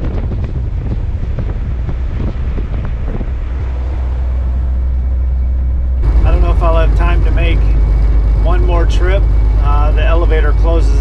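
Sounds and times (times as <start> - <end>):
truck engine and tyres rumbling: 0.0 - 11.0
wind noise on microphone: 0.0 - 11.0.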